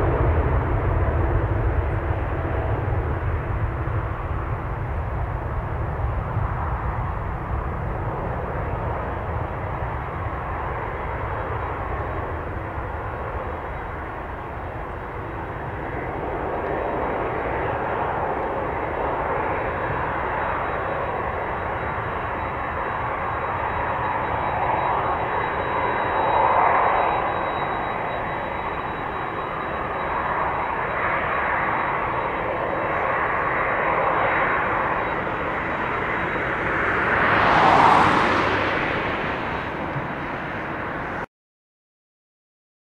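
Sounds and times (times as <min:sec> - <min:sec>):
jet engines at takeoff: 0:00.0 - 0:41.3.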